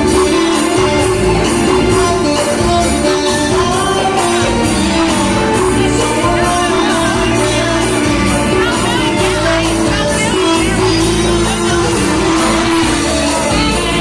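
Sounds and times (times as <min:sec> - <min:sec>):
band playing dance music: 0:00.0 - 0:14.0
steady percussion beat: 0:00.0 - 0:14.0.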